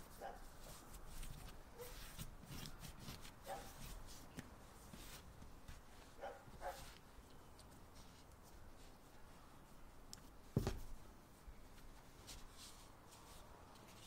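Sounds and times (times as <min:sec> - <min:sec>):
hands shaping bread dough: 0:00.0 - 0:14.0.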